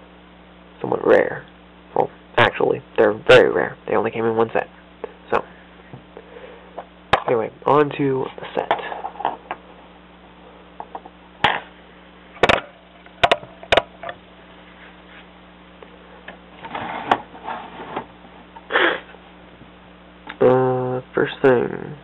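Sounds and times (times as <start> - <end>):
faint mains hum: 0.0 - 22.0.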